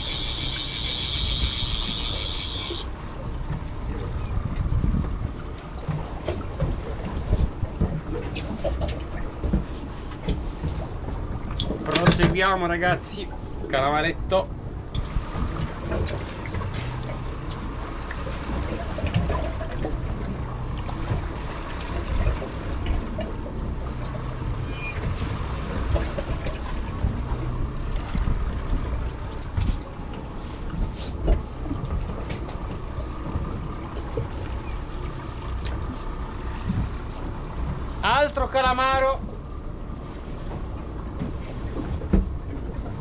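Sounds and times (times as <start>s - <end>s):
outboard motors rumbling: 0.0s - 43.0s
water washing past hull: 0.0s - 43.0s.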